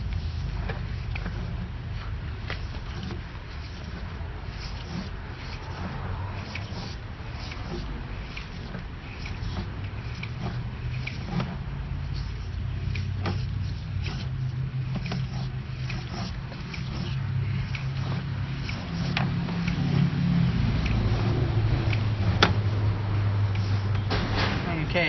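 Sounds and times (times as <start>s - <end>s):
cable clicks and knocks: 0.0s - 24.9s.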